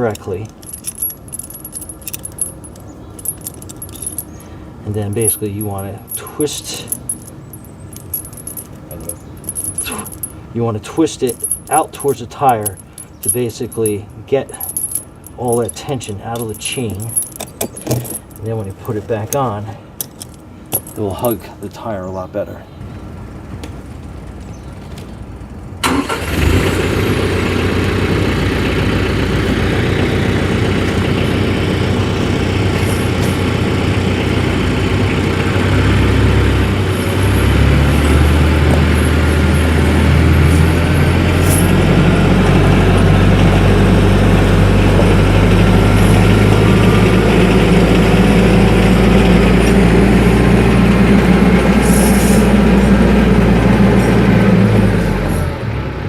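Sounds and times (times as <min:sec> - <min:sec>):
diesel tractor engine: 0:00.0 - 0:21.4, 0:22.8 - 0:56.0.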